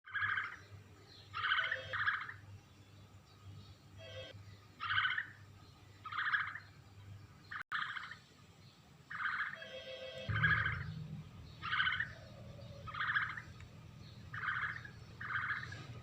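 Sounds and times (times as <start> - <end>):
hoarse bird calls: 0.1 - 2.5, 4.0 - 6.8, 7.5 - 8.2, 9.1 - 16.0.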